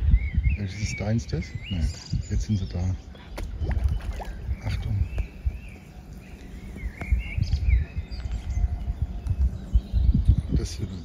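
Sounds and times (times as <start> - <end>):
songbirds chirping and warbling: 0.0 - 11.0.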